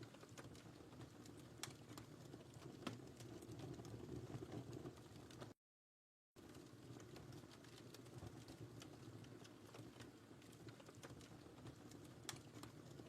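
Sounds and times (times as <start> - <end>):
low rumble of flames: 0.0 - 5.6, 6.4 - 13.0
wood fire crackling: 0.0 - 5.6, 6.4 - 13.0.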